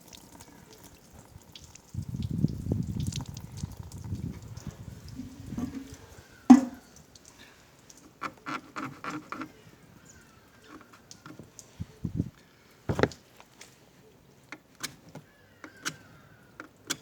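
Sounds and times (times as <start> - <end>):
water splashing and trickling: 0.0 - 14.5.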